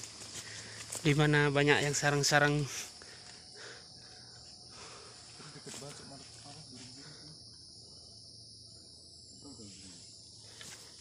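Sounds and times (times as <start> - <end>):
forest insects buzzing: 0.0 - 11.0.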